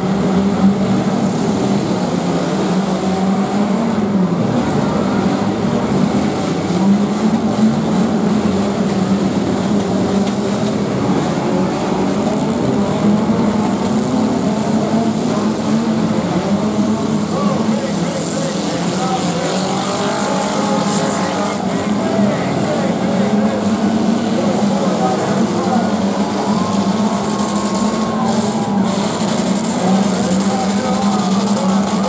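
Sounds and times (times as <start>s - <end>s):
car engines revving together: 0.0s - 32.0s.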